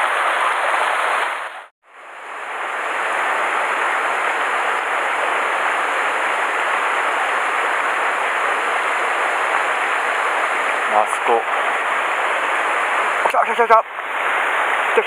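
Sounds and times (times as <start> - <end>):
stream rushing over cascade: 0.0 - 15.0.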